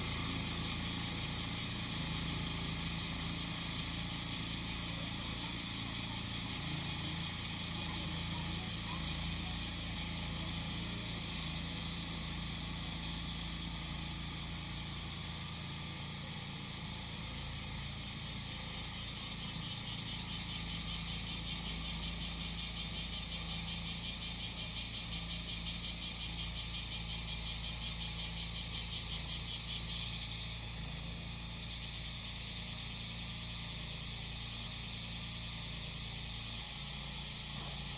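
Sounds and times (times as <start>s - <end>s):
cicadas buzzing: 0.0s - 37.9s
grass cutter engine running: 0.0s - 37.9s.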